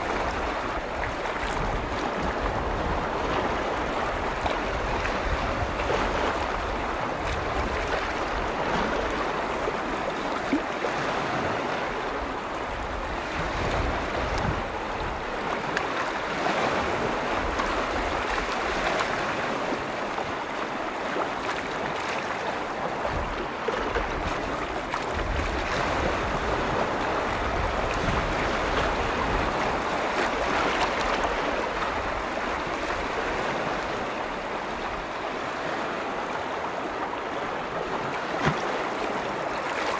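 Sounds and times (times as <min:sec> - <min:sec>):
lake waves washing on shore: 0:00.0 - 0:39.9
wind rumble on microphone: 0:00.0 - 0:39.9.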